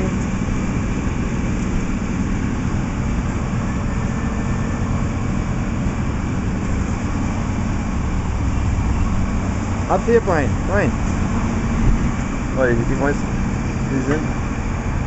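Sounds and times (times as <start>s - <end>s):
heavy engine rumbling: 0.0s - 15.0s.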